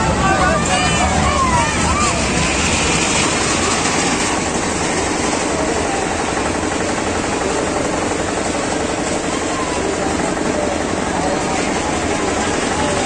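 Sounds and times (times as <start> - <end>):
large crowd noise: 0.0 - 13.0
ride engines rumbling: 0.0 - 13.0.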